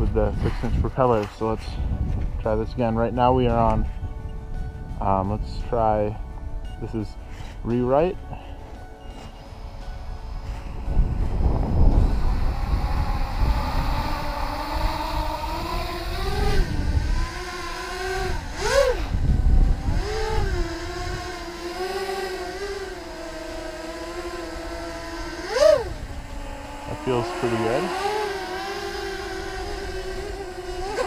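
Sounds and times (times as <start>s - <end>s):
quadcopter motors whining: 0.0s - 3.9s, 6.8s - 31.0s
low rumbling: 0.0s - 31.0s.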